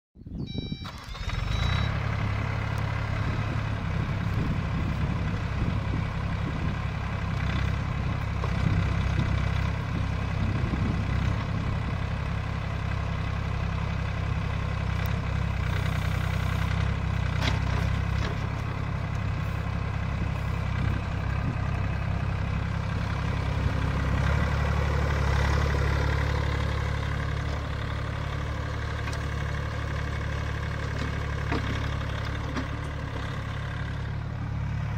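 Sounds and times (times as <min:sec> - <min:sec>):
excavator diesel engine running: 0:00.3 - 0:34.9.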